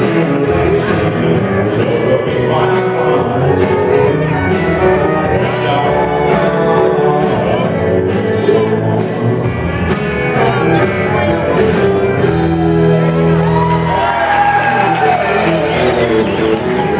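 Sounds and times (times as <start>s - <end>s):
drums: 0.0s - 16.9s
electric guitar: 0.0s - 16.9s
live country band: 0.0s - 16.9s.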